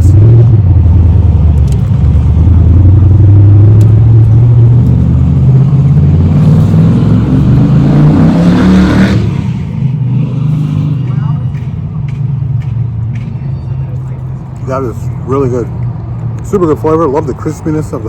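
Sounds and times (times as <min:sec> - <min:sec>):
vehicle engine accelerating: 0:00.0 - 0:18.0.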